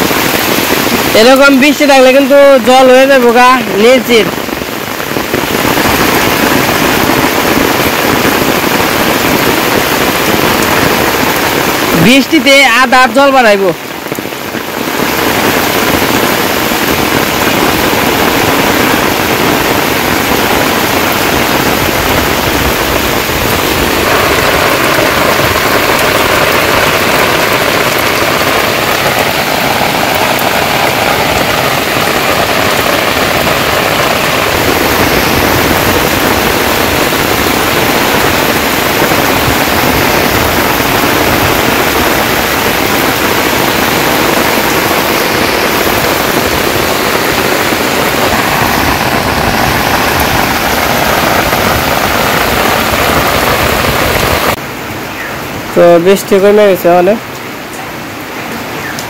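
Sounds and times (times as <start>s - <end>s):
heavy rain on water: 0.0s - 59.0s.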